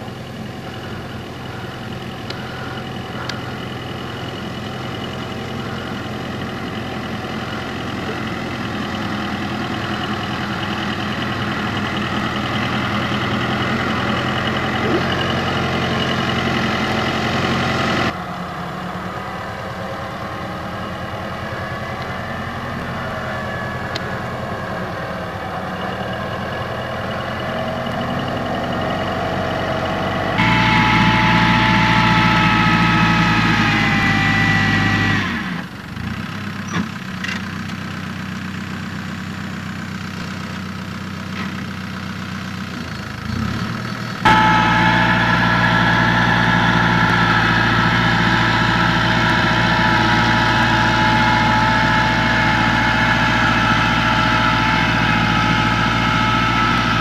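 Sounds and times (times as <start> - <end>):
transporter engine running: 0.0 - 57.0.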